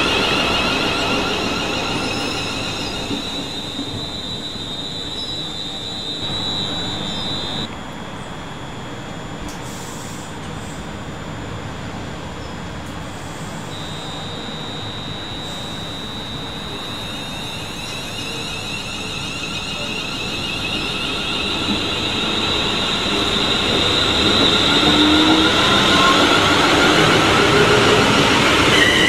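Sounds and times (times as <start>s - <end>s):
train running noise: 0.0s - 8.2s, 9.4s - 29.0s
train high steady whine: 0.0s - 29.0s.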